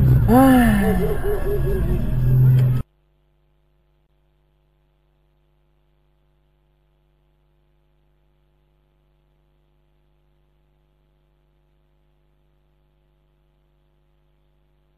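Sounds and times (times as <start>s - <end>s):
faint electrical mains hum: 0.0s - 14.9s.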